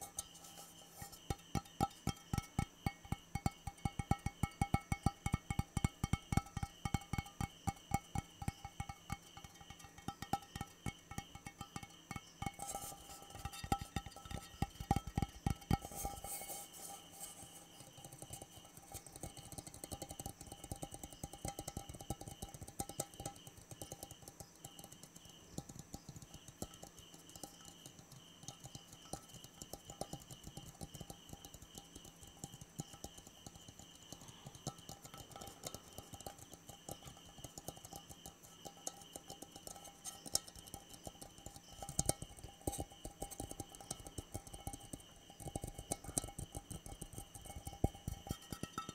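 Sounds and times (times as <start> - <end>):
fingers tapping hard objects: 0.0 - 48.9.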